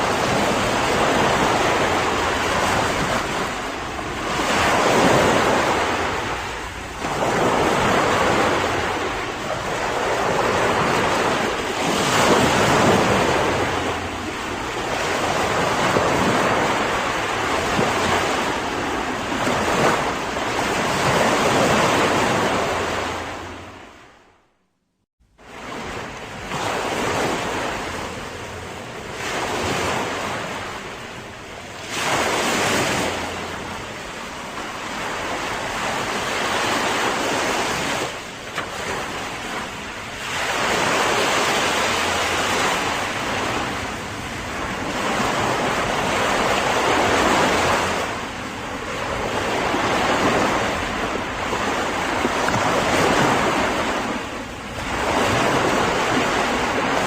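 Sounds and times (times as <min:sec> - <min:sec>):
ocean waves breaking: 0:00.0 - 0:24.4, 0:25.3 - 0:57.0.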